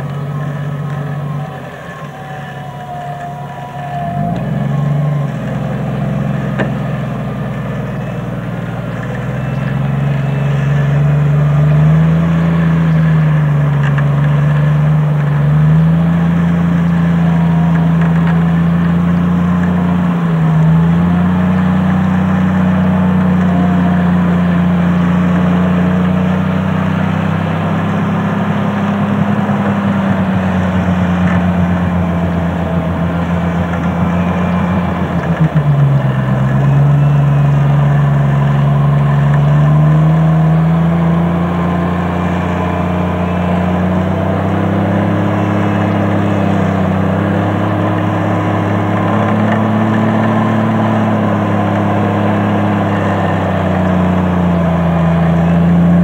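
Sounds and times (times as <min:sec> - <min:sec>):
engine running under heavy load: 0:00.0 - 0:56.0.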